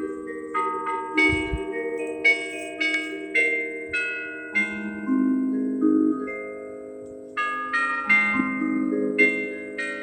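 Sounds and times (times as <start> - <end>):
church bells ringing: 0.0 - 10.0.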